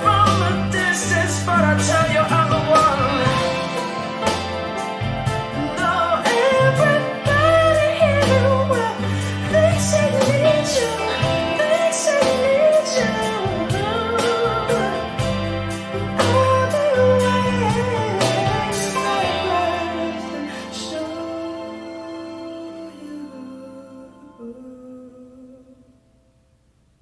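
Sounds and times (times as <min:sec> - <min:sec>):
rock folk song with guitars: 0:00.0 - 0:22.0.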